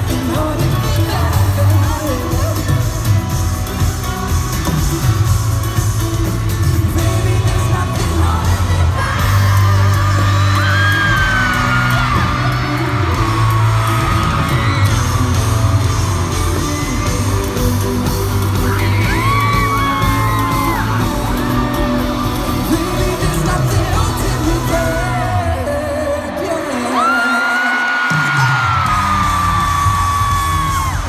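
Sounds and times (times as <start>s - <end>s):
crowd yelling and singing along: 0.0s - 31.0s
live pop band through speakers: 0.0s - 31.0s.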